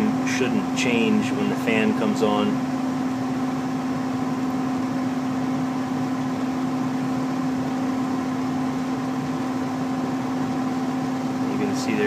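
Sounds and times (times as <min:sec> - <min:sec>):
blower fan air rush: 0:00.0 - 0:12.0
furnace humming: 0:00.0 - 0:12.0.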